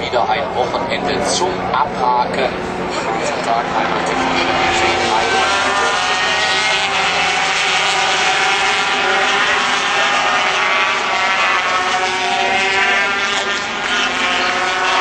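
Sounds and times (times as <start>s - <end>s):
racing motorcycles wailing: 0.0s - 15.0s.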